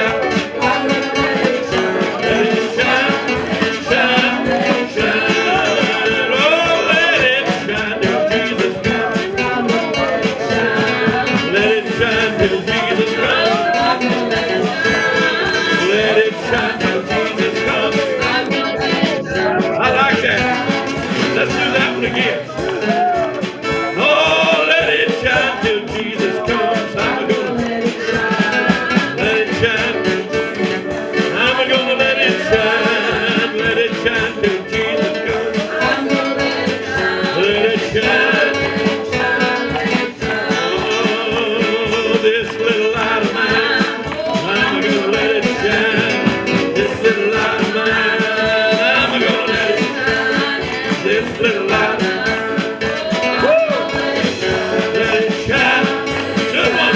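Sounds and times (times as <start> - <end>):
gospel singing: 0.0 - 56.9
instrumental accompaniment: 0.0 - 56.9.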